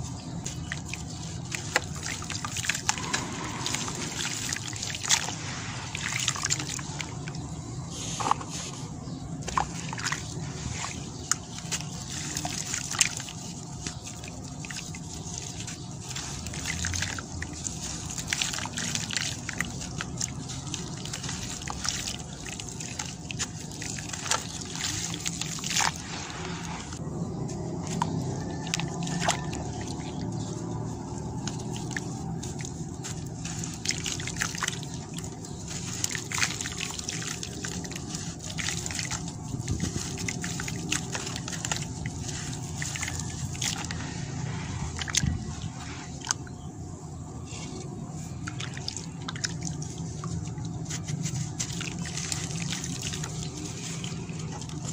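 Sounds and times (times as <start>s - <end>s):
water sloshing and trickling: 0.0s - 54.9s.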